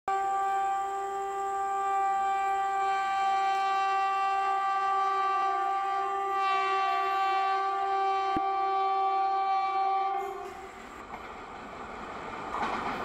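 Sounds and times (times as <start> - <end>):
locomotive air horn: 0.1 - 11.0.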